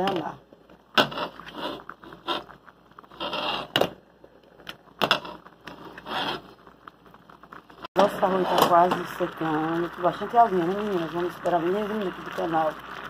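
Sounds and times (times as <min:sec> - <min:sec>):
food boiling in pot: 0:00.0 - 0:13.0.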